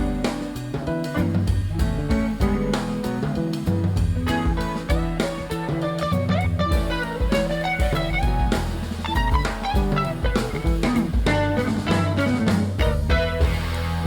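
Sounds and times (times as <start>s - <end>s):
jazzy guitar instrumental: 0.0s - 14.0s.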